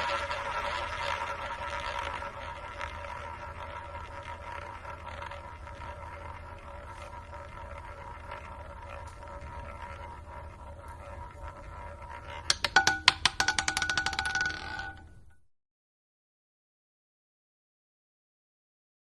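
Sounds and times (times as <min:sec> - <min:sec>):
roulette ball rolling in wheel: 0:00.0 - 0:15.5.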